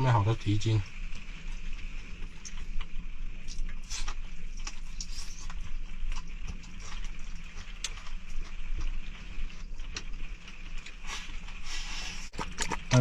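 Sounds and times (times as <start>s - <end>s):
rain pattering on a roof: 0.0s - 13.0s.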